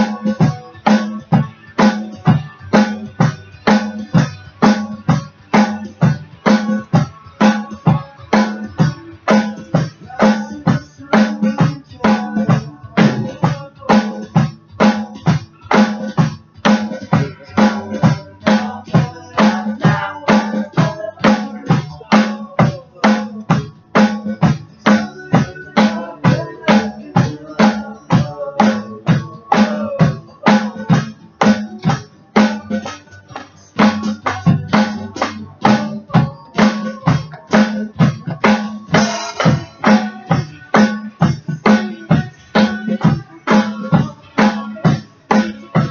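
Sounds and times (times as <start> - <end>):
backing song instruments: 0.0 - 45.9
drum kit beat: 0.0 - 45.9.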